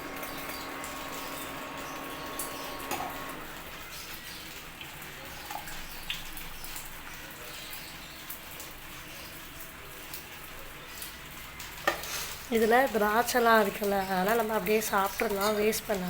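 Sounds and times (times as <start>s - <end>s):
liquid trickling through strainer: 0.0s - 16.0s
small drips: 0.0s - 16.0s.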